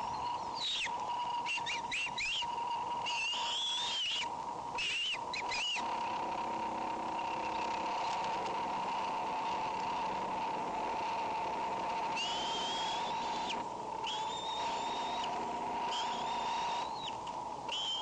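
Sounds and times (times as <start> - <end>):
eagle chittering calls: 0.0 - 18.0
steady electrical hum: 0.0 - 18.0.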